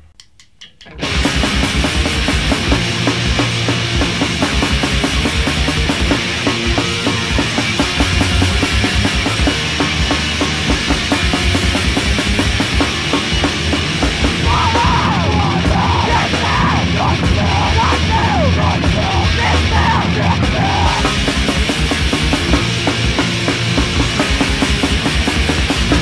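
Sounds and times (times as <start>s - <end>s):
distorted guitars: 0.0s - 26.0s
pounding drums: 0.0s - 26.0s
punk rock music: 0.0s - 26.0s.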